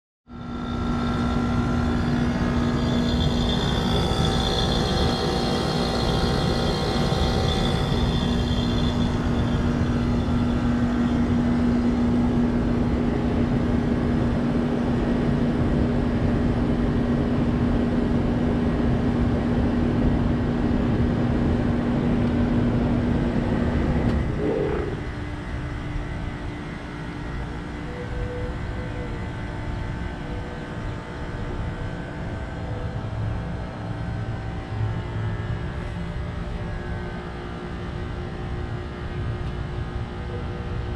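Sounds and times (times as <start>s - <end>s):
heat pump compressor humming: 0.3s - 40.9s.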